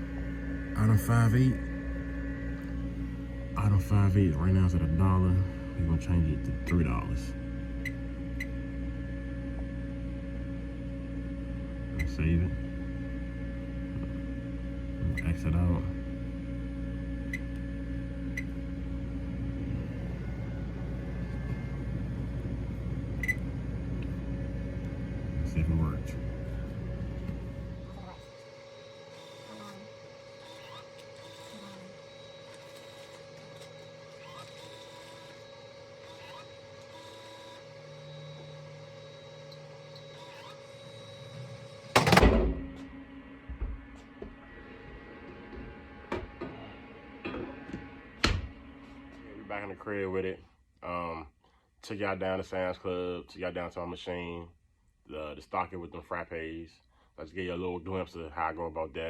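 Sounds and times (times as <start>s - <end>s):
vending machine hum: 0.0s - 54.4s.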